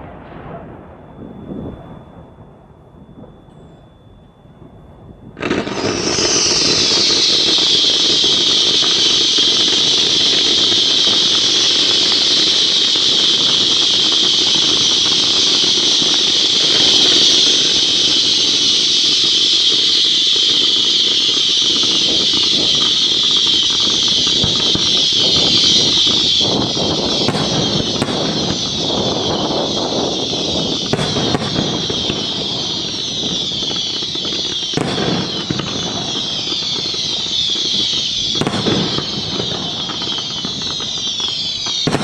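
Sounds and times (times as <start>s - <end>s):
fireworks hissing: 5.4s - 42.0s.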